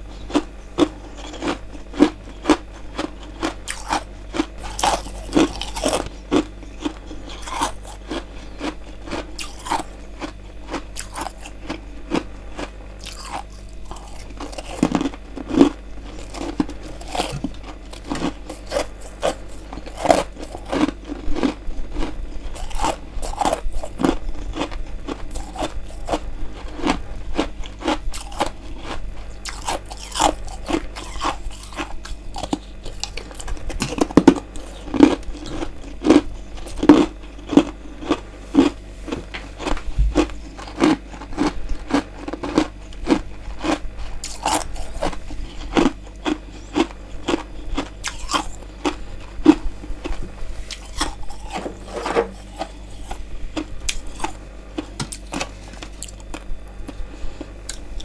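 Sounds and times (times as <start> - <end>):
person crunching ice: 0.8 - 24.7, 25.3 - 36.2, 39.6 - 49.6, 50.7 - 56.5.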